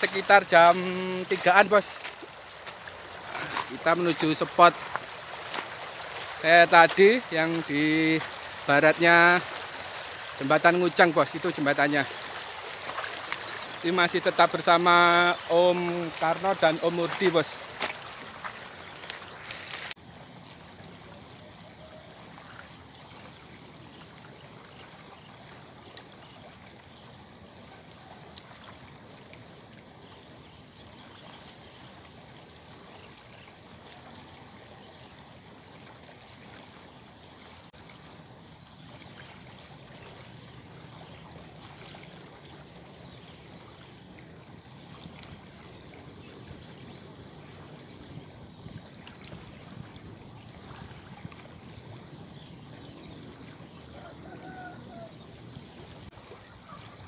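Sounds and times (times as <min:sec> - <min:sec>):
river water rushing: 0:00.0 - 0:26.8, 0:35.6 - 0:57.0.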